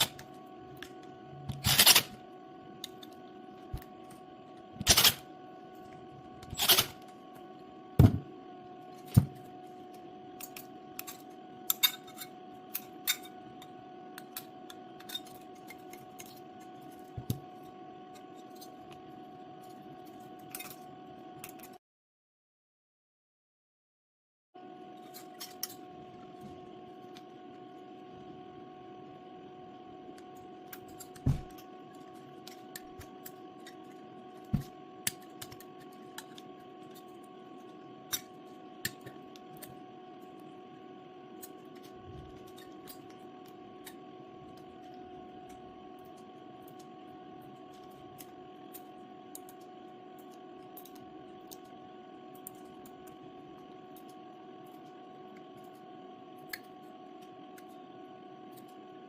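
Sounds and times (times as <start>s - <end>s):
electrical hum: 0.0s - 21.8s, 24.6s - 59.0s.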